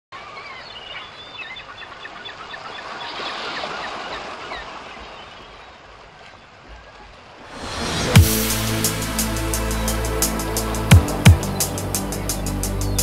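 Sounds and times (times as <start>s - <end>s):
birds chirping: 0.1s - 7.3s, 7.9s - 13.0s.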